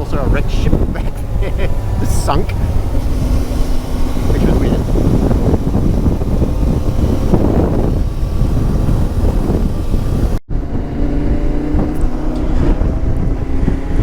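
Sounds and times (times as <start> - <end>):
motorcycle engine drone: 0.0 - 14.0
wind buffeting microphone: 0.0 - 14.0.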